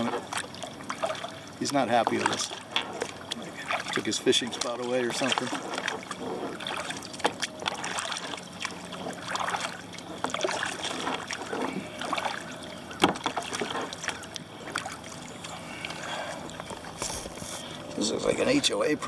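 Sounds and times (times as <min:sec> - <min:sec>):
water dripping from paddle: 0:00.0 - 0:17.0
paddle strokes splashing water: 0:00.0 - 0:19.0.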